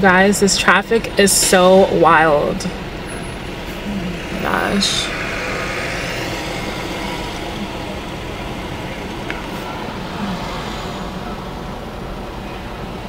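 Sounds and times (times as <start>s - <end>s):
car engine: 0.0s - 13.0s
road noise: 0.0s - 13.0s.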